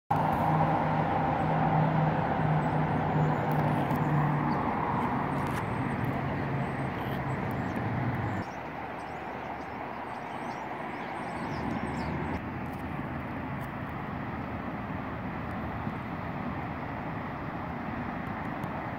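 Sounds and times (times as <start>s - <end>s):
engine hum: 0.1s - 18.9s
road traffic noise: 0.1s - 18.9s.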